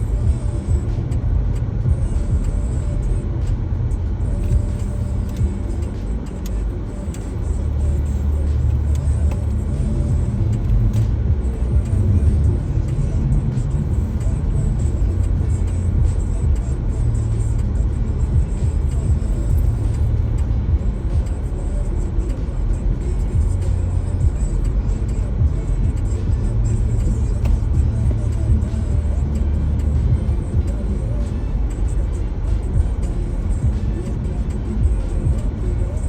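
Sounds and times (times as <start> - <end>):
car rumble: 0.0 - 36.0
music playing: 0.0 - 36.0.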